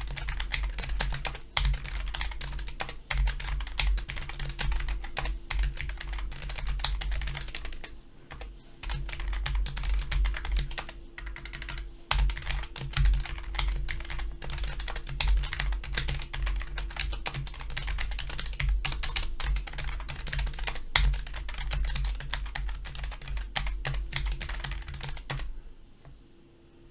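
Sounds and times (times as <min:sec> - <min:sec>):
fast mechanical keyboard typing: 0:00.0 - 0:25.5.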